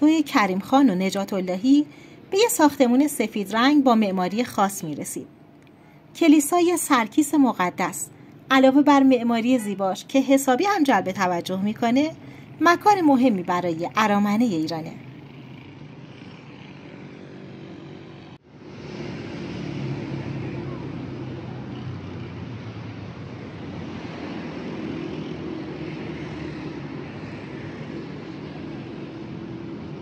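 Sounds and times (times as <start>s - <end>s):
car and motorbike traffic: 0.0s - 30.0s.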